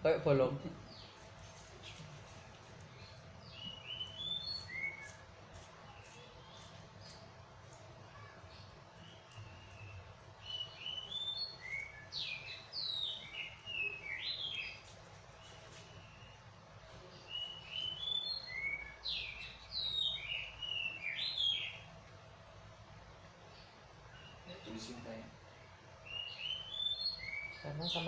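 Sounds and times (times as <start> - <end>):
songbird chirping: 0.1 - 28.0.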